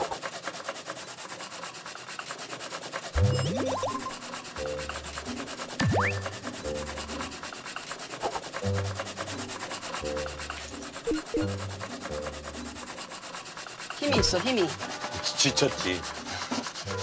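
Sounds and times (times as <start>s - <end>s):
potato scraping on grater: 0.0s - 17.0s.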